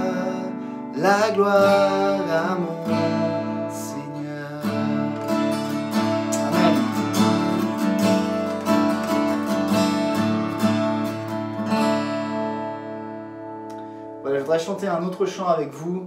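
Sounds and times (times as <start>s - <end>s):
acoustic guitar strummed chords: 0.0s - 15.1s.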